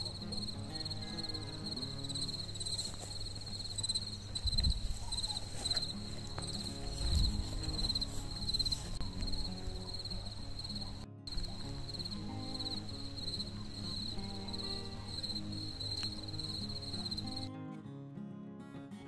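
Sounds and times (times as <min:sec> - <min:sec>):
crickets chirping: 0:00.0 - 0:17.5
soft background music: 0:00.0 - 0:19.0.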